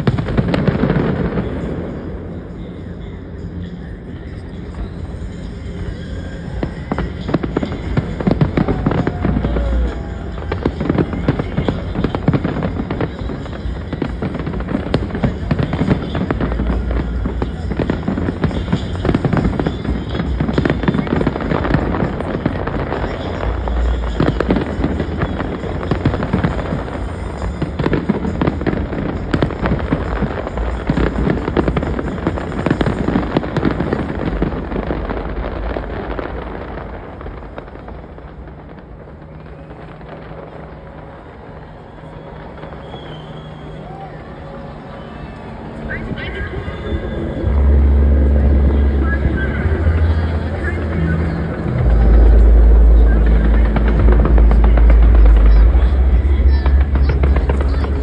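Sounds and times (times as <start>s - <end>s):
deep fireworks booms: 0.0s - 58.0s
fireworks crackling and popping: 0.0s - 58.0s.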